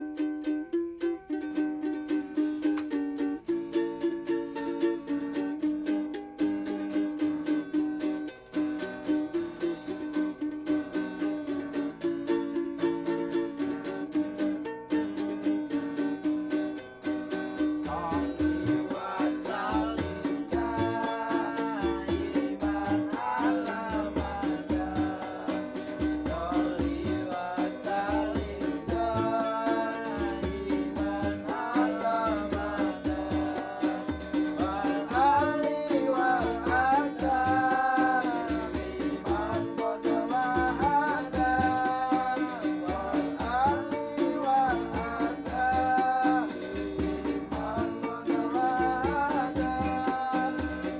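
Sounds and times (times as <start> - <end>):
shaker rattle beat: 0.0 - 50.9
strummed ukulele: 0.0 - 50.9
person singing: 1.8 - 50.9.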